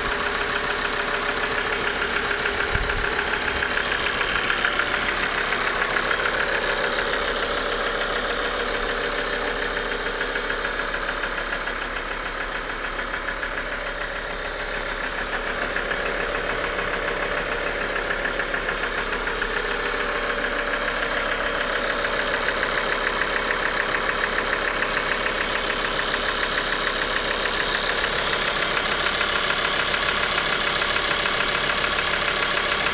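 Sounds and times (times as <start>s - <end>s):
car engine idling with ticking clatter: 0.0s - 32.9s.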